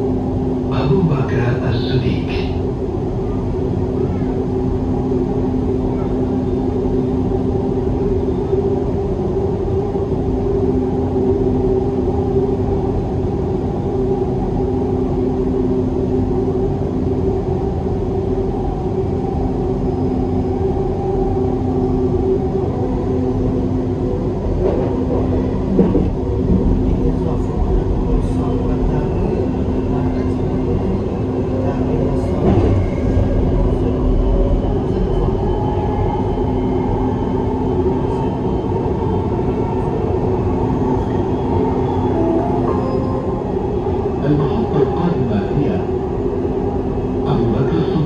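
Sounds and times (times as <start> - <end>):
train rumbling in motion: 0.0 - 48.0.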